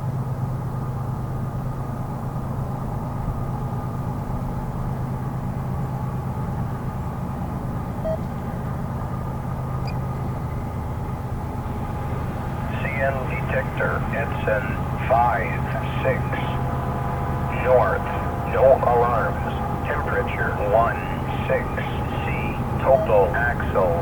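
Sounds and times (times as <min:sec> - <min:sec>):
freight train rolling past: 0:00.5 - 0:24.0.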